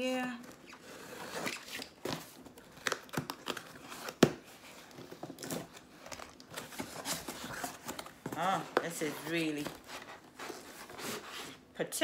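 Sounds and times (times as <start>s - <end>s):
packaging rustling and tearing: 0.4s - 11.7s.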